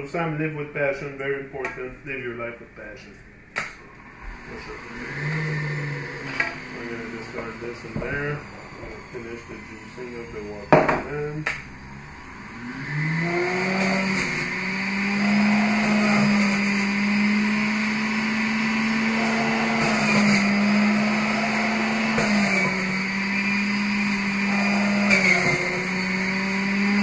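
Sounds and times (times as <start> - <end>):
juicer motor whirring: 3.6 - 27.0.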